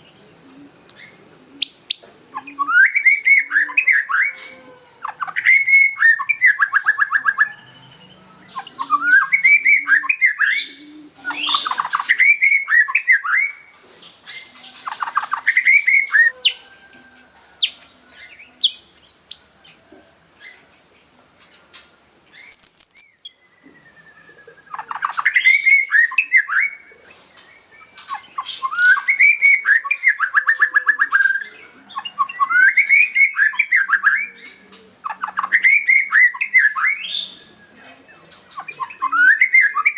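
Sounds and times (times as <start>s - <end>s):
bird singing whistles and trills: 0.9s - 19.5s, 22.3s - 39.9s.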